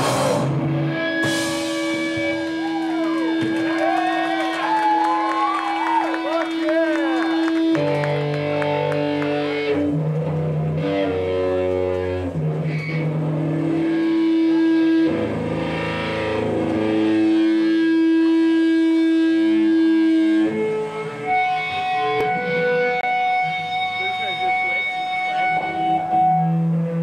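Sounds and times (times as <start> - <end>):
amplified electric guitar: 0.0 - 27.0
bass guitar: 0.0 - 27.0.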